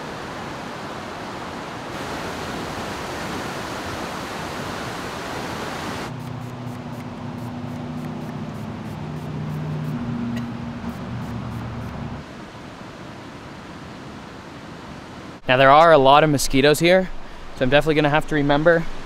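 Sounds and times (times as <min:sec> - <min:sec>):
river water rushing: 0:00.0 - 0:15.4.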